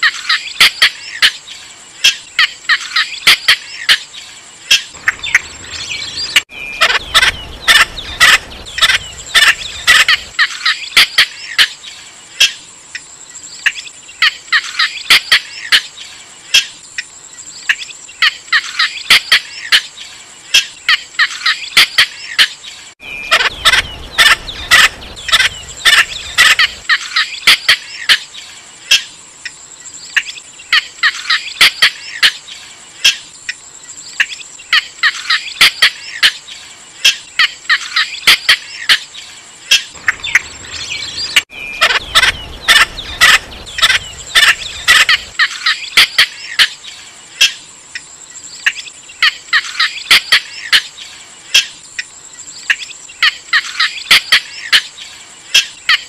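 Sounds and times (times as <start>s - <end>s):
bird calls recording: 0.0s - 56.0s.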